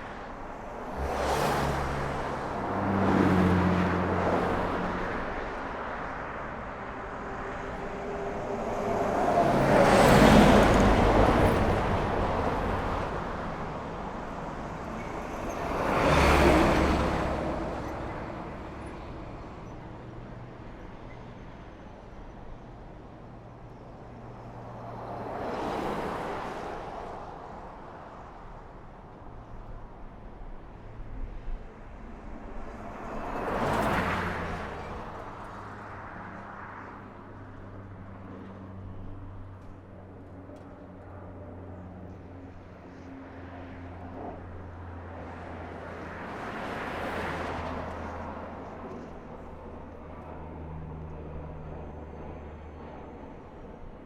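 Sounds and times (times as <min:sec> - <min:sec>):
vehicles passing: 0:00.0 - 0:21.7, 0:22.6 - 0:54.0.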